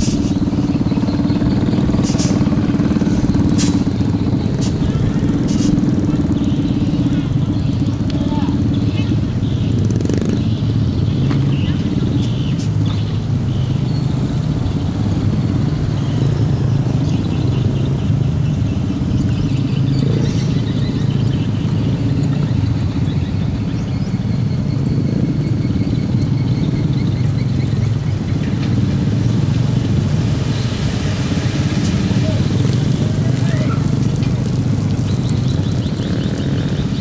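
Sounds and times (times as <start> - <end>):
diesel truck engine running: 0.0 - 37.0.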